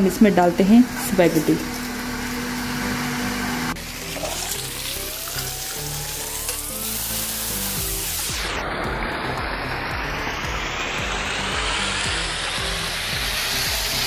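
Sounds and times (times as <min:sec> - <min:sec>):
background music: 0:00.0 - 0:14.0
food sizzling in a wok: 0:00.0 - 0:14.0.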